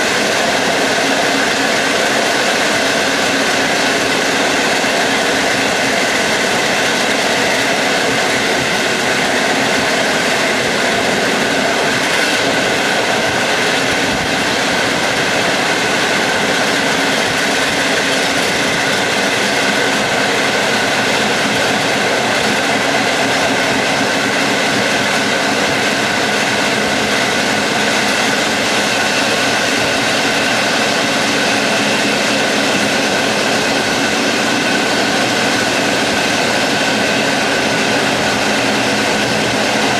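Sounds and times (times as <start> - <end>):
passenger train rumbling: 0.0 - 39.9
train whining tones: 0.0 - 39.9.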